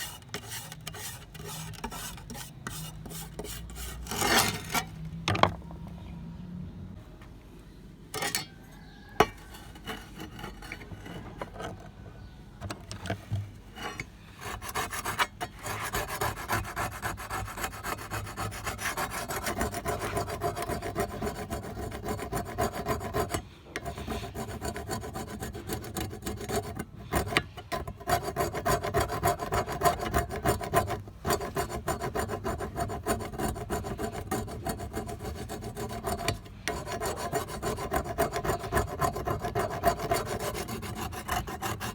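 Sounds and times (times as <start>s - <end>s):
abrasive scraping a trowel: 0.0s - 5.0s, 9.2s - 11.9s, 13.7s - 41.9s.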